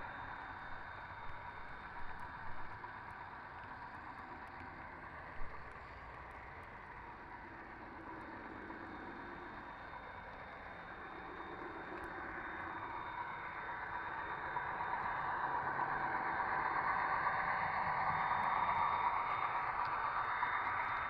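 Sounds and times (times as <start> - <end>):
model train wheels rumbling: 0.0 - 21.0.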